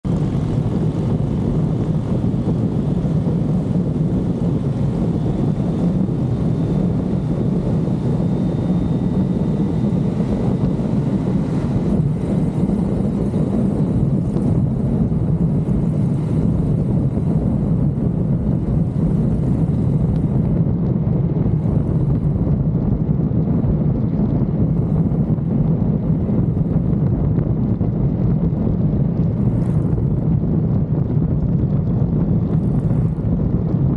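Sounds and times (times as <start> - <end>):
motorcycle engine: 0.0 - 33.9
road noise: 0.0 - 33.9
wind rush on microphone: 0.0 - 33.9.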